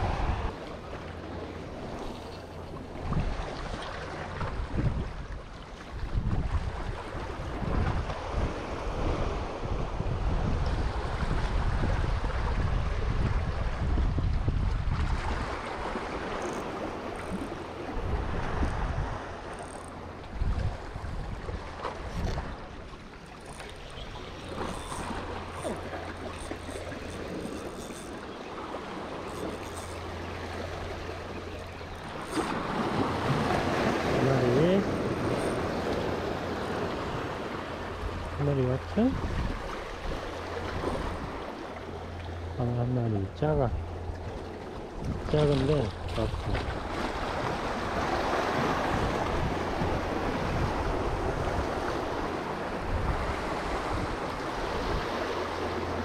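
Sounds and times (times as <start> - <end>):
wind rumbling on microphone: 0.0 - 0.6, 1.2 - 56.0
waves lapping against rocks: 10.4 - 56.0.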